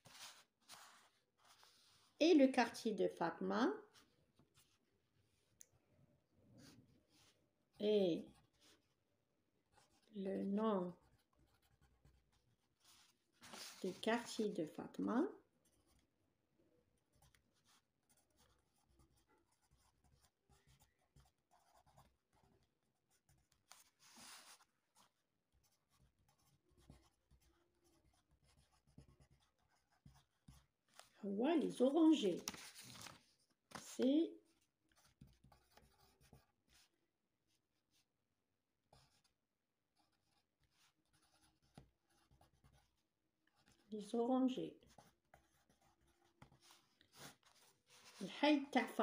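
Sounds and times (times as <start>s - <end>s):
pencil scratching on paper: 0.0s - 2.5s, 6.6s - 9.0s, 9.6s - 16.2s, 17.0s - 38.1s, 38.9s - 49.0s.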